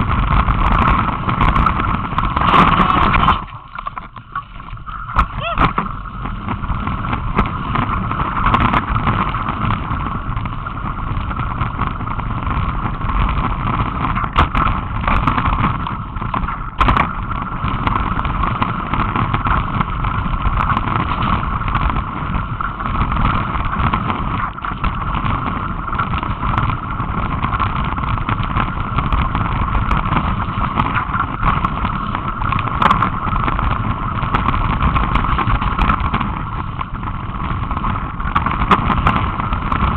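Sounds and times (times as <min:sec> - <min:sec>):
bike tyres rumbling on gravel: 0:00.0 - 0:39.9
wind on microphone: 0:00.0 - 0:39.9.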